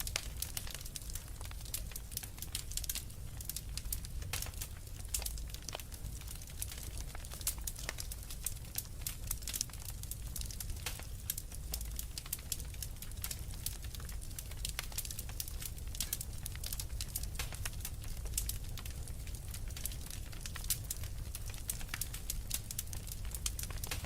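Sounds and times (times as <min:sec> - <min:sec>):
low rumble of flames: 0:00.0 - 0:24.0
wood fire crackling and popping: 0:00.0 - 0:24.0.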